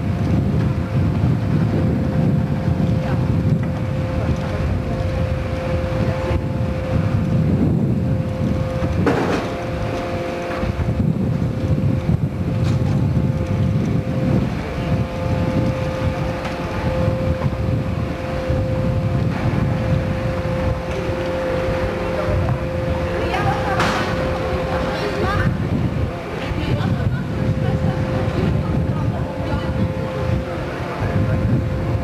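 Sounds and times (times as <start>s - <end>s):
boat engine running: 0.0s - 32.0s
wind buffeting microphone: 0.0s - 32.0s.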